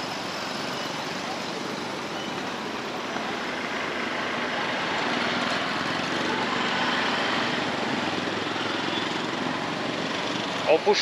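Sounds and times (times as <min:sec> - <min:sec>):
hum of vehicle engines: 0:00.0 - 0:11.0.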